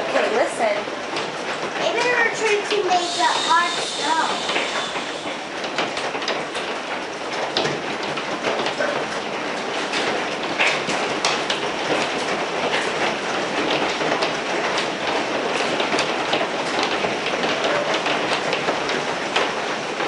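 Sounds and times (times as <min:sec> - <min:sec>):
hailstones clattering on hard surfaces: 0:00.0 - 0:20.0
hiss of falling hail and rain: 0:00.0 - 0:20.0.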